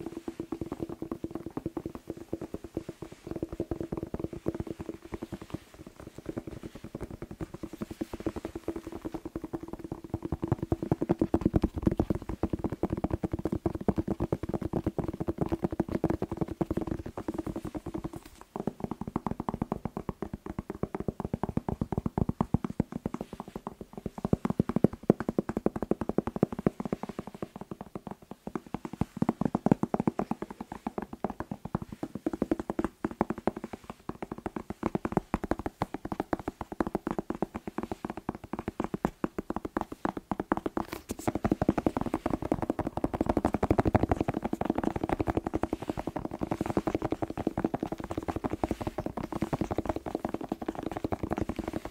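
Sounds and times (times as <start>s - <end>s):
fingertips tapping hollow pepper: 0.0s - 51.9s.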